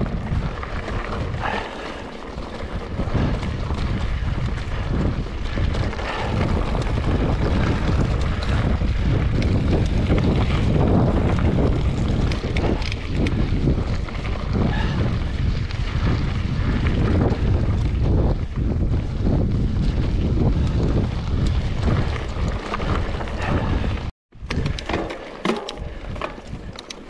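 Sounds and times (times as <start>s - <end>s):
wind rushing over microphone: 0.0s - 25.1s.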